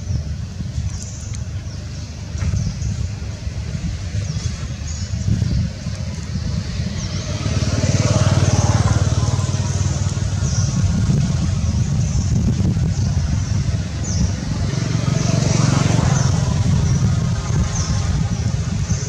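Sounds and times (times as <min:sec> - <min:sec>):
motor engine running: 0:00.0 - 0:19.0.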